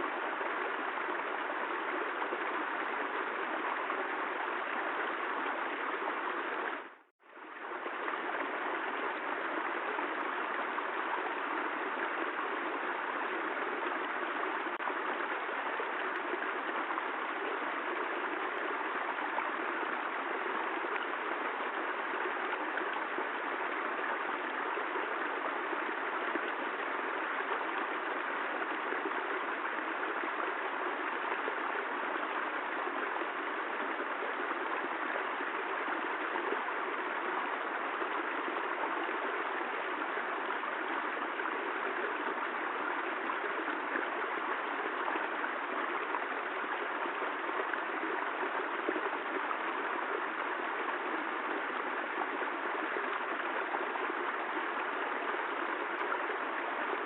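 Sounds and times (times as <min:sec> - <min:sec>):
rush of water: 0:00.0 - 0:57.0.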